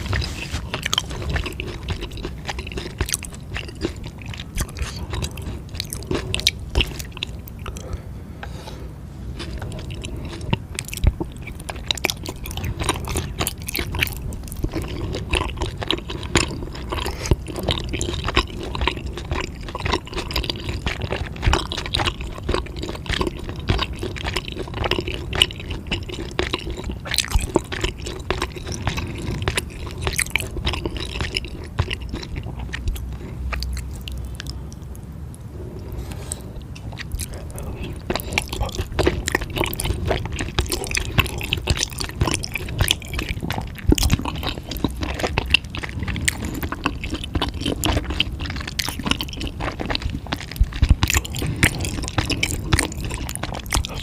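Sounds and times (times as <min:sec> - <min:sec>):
wet chewing of food: 0:00.0 - 0:54.0.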